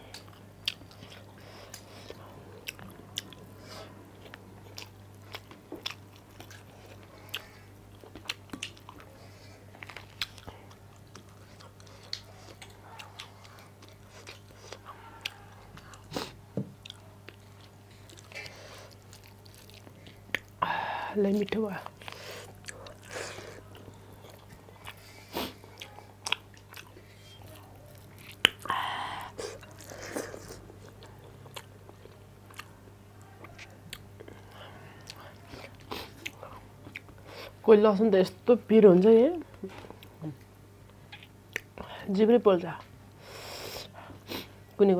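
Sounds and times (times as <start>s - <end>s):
person chewing food: 0.0s - 20.7s, 21.3s - 37.6s, 39.6s - 41.9s
low electrical hum: 0.0s - 44.9s.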